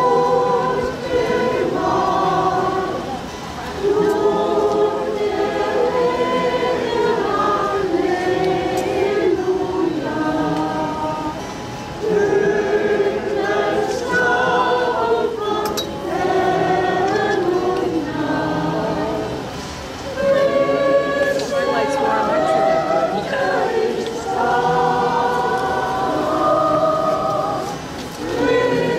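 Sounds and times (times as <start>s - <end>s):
choir singing long held notes: 0.0s - 28.9s.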